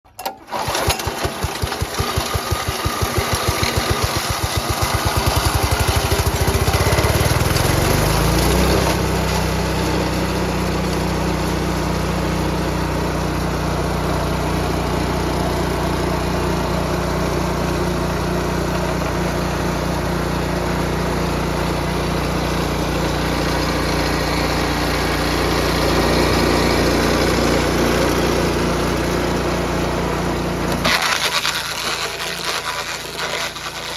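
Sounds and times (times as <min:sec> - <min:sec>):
small engine running: 0:00.2 - 0:33.9.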